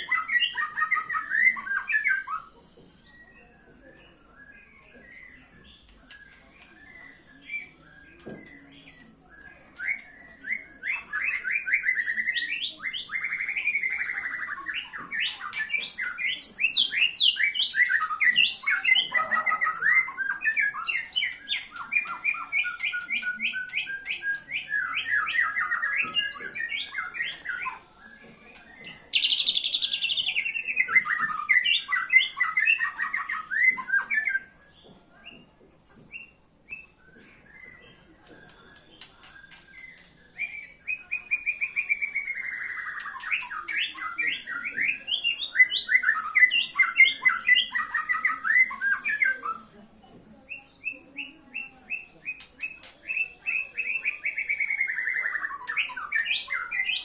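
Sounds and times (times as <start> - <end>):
songbird singing varied song: 0.0 - 57.0.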